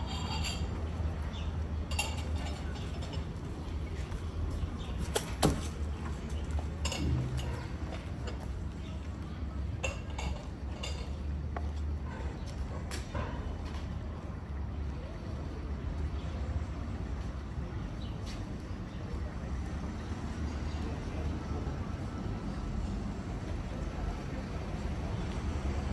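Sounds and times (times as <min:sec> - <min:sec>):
low street rumble: 0:00.0 - 0:25.9.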